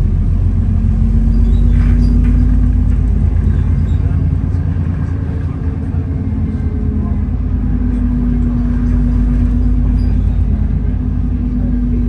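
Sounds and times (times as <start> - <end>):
bus driveline and road rumble: 0.0 - 12.0.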